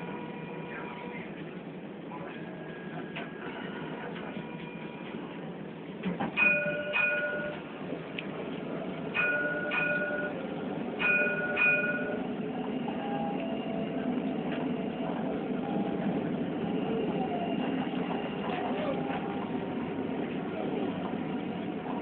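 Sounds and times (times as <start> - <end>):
tram running noise: 0.0 - 22.0
tram warning gong: 2.4 - 22.0.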